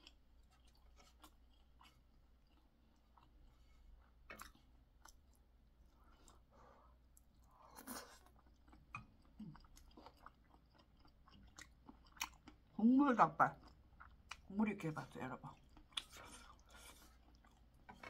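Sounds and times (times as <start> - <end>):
chewing and mouth smacking: 0.0 - 3.6, 4.2 - 6.5, 7.1 - 12.8, 13.5 - 14.5, 15.5 - 18.0.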